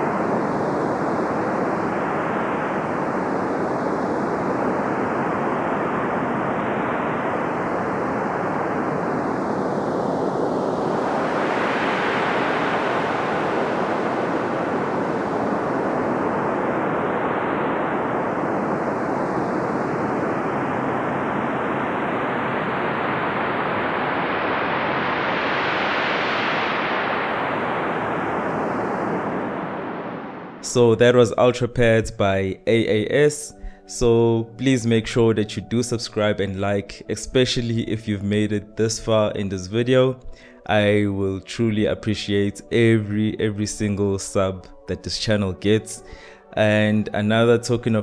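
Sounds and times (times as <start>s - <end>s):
noisy synthesizer pad hiss: 0.0s - 48.0s.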